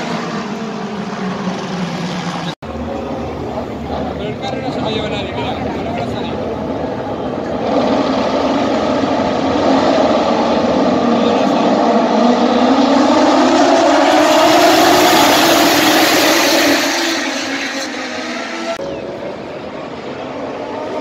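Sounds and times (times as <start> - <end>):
racing motorcycles accelerating: 0.0 - 21.0.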